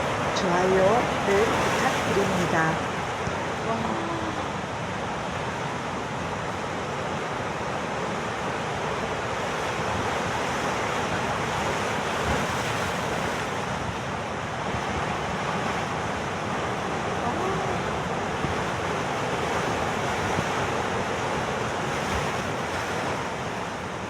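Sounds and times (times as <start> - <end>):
surf breaking on rocky shore: 0.0 - 24.0.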